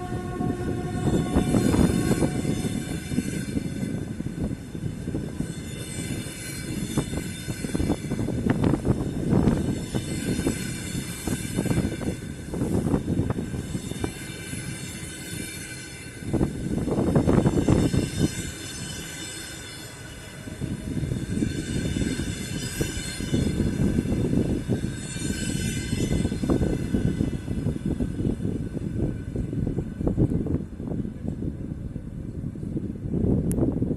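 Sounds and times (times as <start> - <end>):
train wheels clattering over rail joints: 0.3 - 31.5.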